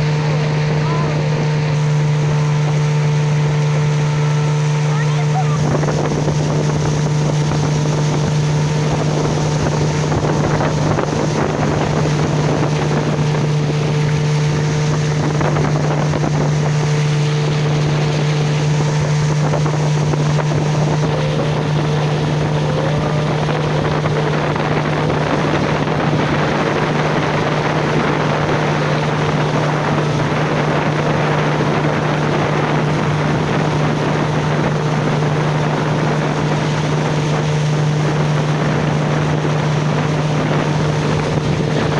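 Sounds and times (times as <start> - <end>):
motorboat engine running: 0.0 - 41.9
water rushing past hull: 0.0 - 41.9
wind buffeting microphone: 0.0 - 41.9.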